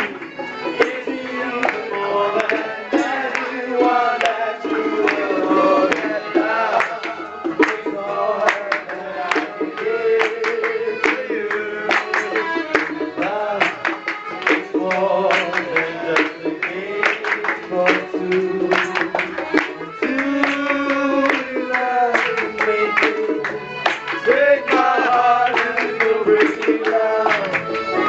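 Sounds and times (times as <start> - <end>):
hand-drum strikes: 0.0 - 27.7
acoustic guitar strumming: 0.0 - 28.0
person singing into microphone: 0.6 - 23.6, 24.2 - 28.0.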